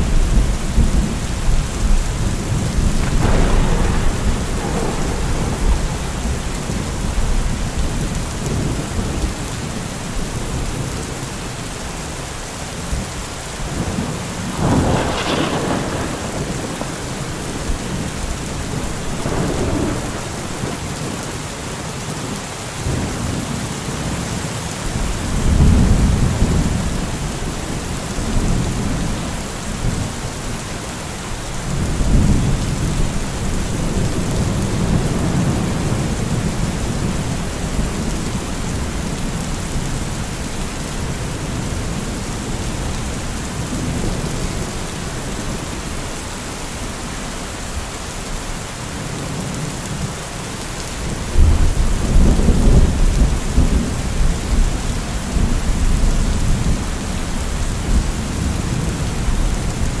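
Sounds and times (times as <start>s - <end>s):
thunder rumbling: 0.0s - 10.9s, 12.8s - 22.2s, 24.9s - 30.6s, 31.3s - 46.2s, 51.0s - 60.0s
heavy rain hissing: 0.0s - 60.0s.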